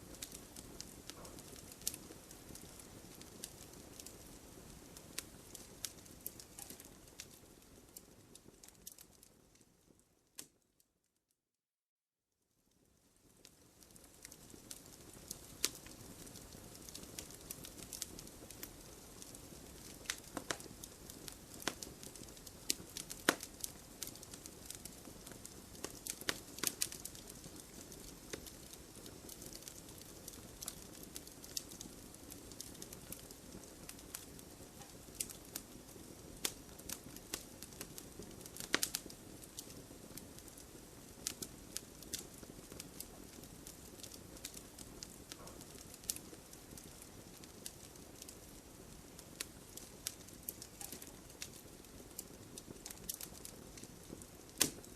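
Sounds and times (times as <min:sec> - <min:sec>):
burning logs popping: 0:00.0 - 0:09.2, 0:13.3 - 0:54.9
fire hissing and crackling: 0:00.0 - 0:10.6, 0:12.7 - 0:54.9.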